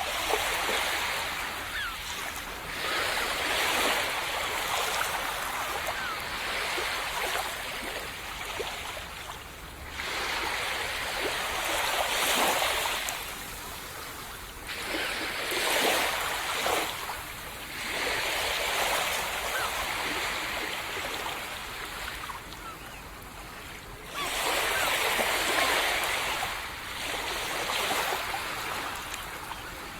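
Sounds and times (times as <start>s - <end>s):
waves breaking on sand beach: 0.0s - 29.9s.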